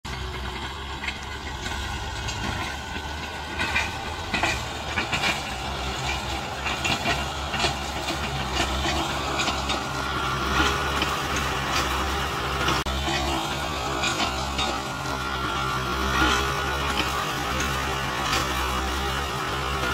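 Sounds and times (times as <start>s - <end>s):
tractor diesel engine running: 0.0s - 19.9s
metal clanks and rattles: 0.1s - 19.9s.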